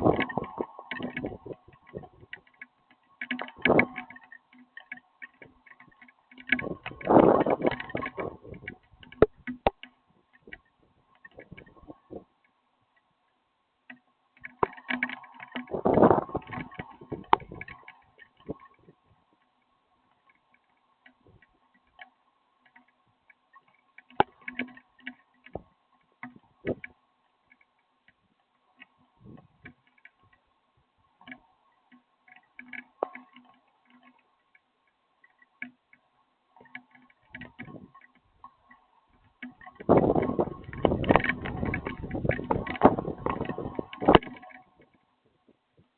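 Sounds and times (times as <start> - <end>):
raindrops dripping and tapping: 0.0 - 12.6, 13.9 - 45.9
faint steady hum: 0.0 - 45.9.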